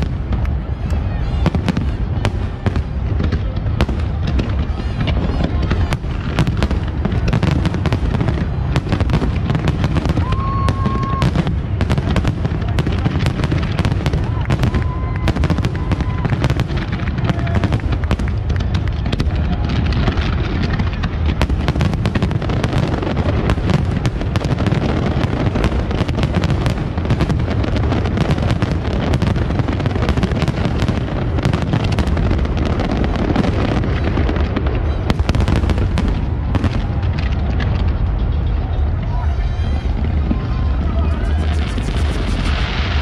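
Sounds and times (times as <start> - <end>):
fireworks crackling: 0.0 - 43.0.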